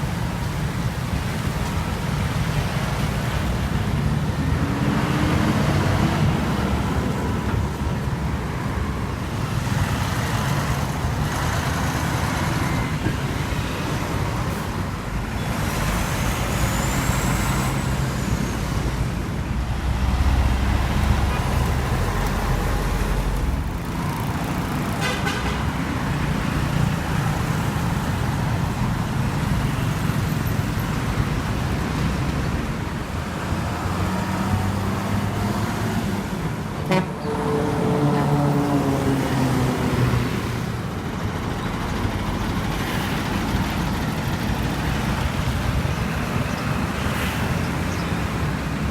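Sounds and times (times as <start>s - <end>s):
city road traffic: 0.0s - 48.9s
heavy truck engines running: 0.0s - 48.9s.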